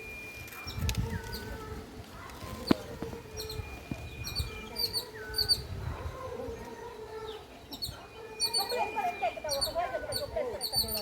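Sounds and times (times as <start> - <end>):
birds chirping: 0.0 - 11.0
lower bird calls: 0.0 - 11.0.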